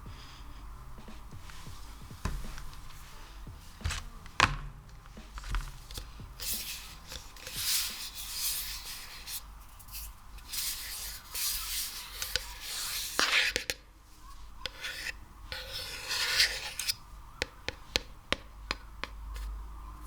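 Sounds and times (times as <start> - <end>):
hands rubbing sticky material: 0.0 - 13.6, 14.5 - 19.6.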